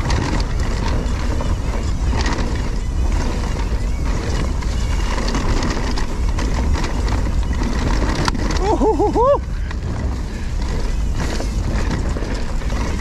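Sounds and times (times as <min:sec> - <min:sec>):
bike clattering over bumps: 0:00.0 - 0:13.0
tyres on dirt trail: 0:00.0 - 0:13.0
wind rumble on microphone: 0:00.0 - 0:13.0.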